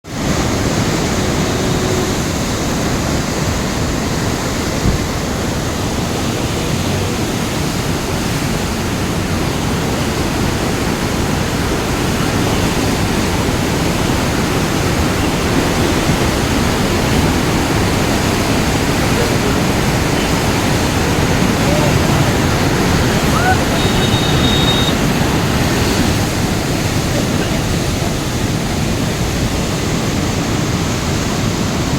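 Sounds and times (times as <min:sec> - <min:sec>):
floodwater rushing: 0:00.0 - 0:31.9.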